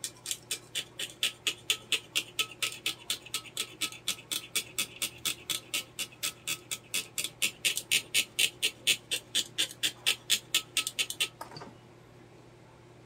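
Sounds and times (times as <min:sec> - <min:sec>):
hand brush scrubbing circuit board: 0:00.0 - 0:11.3.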